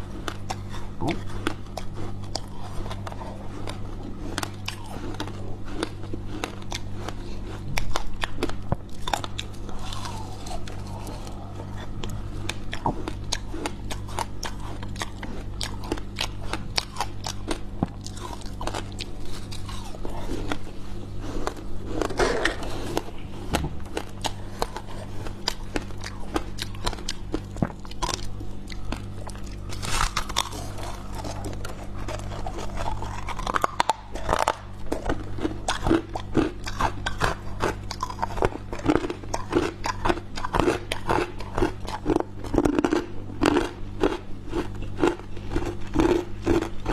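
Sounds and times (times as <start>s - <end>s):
chewing crunchy frost: 0.0s - 46.9s
steady low hum: 0.0s - 46.9s.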